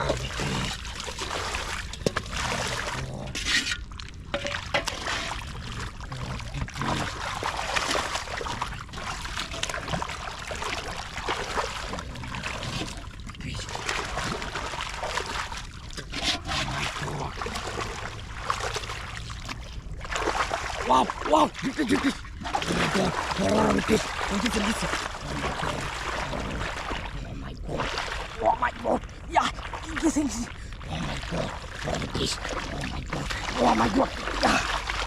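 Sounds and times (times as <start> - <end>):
pond water splashing: 0.0 - 35.0
water dripping: 0.0 - 35.0.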